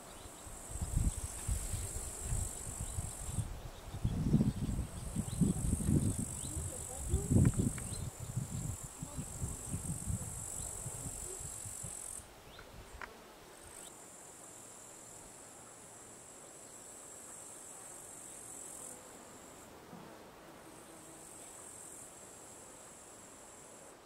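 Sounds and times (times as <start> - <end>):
insects chirring: 0.0 - 19.7, 20.6 - 24.0.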